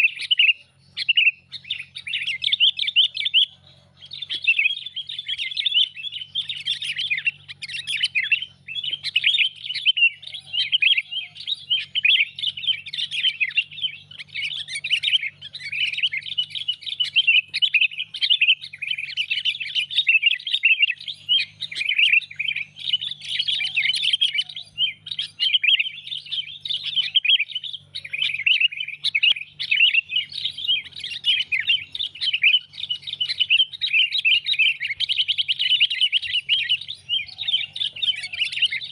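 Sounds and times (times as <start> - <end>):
birds chirping and whistling: 0.0 - 38.9.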